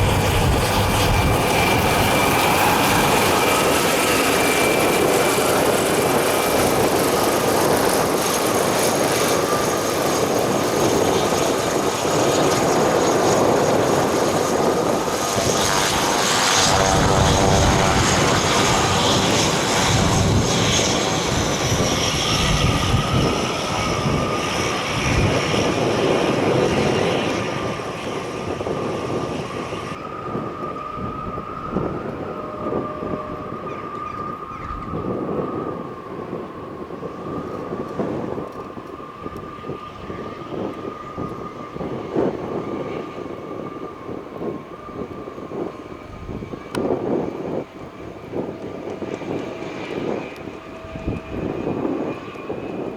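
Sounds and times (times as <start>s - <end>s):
turboprop engine running: 0.0s - 52.9s
wind rumbling on microphone: 0.0s - 52.9s.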